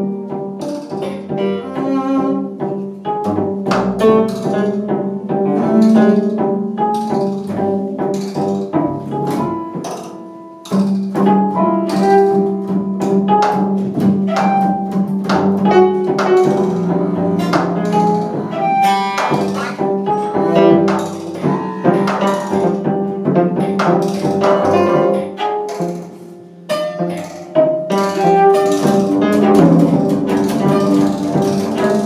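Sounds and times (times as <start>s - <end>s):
cello and double bass bowing: 0.0s - 32.0s.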